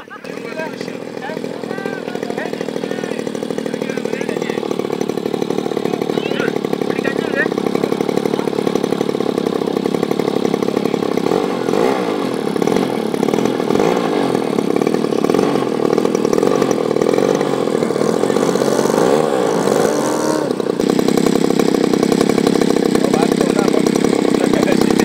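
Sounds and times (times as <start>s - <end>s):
model airplane engine revving: 0.0s - 25.0s.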